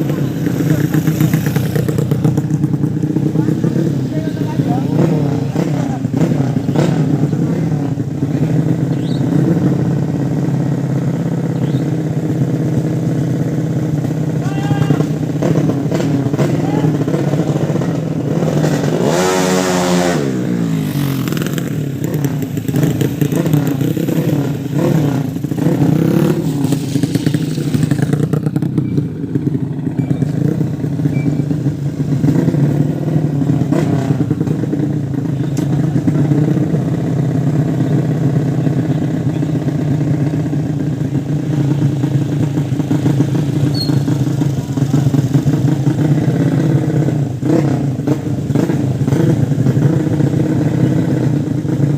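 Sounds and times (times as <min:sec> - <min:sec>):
motorcycle engines running: 0:00.0 - 0:51.9.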